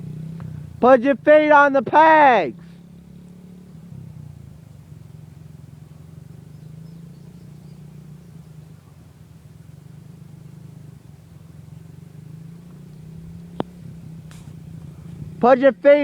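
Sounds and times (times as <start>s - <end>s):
minibike engine running: 0.0s - 16.0s.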